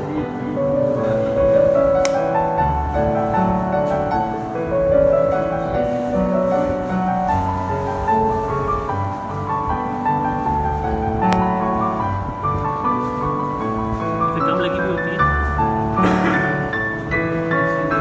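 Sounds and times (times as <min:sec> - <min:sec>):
piano background music: 0:00.0 - 0:18.0.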